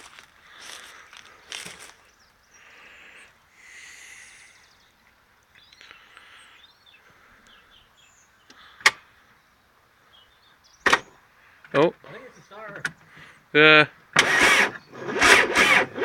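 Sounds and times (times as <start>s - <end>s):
small birds chirping: 0.0s - 15.2s.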